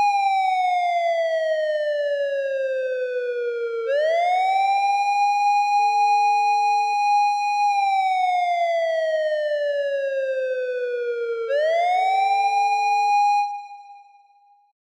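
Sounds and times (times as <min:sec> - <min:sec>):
police car siren wailing: 0:00.0 - 0:14.0.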